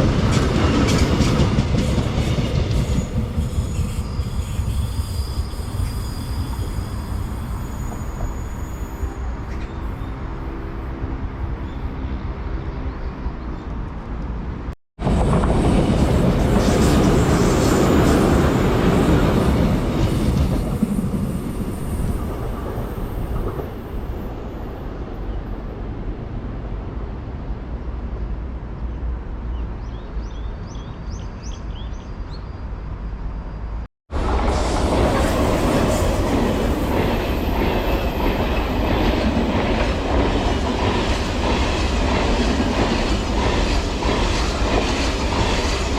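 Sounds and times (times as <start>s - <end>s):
train wheels rumbling on rail: 0.0s - 11.0s, 13.7s - 28.0s, 34.1s - 45.9s.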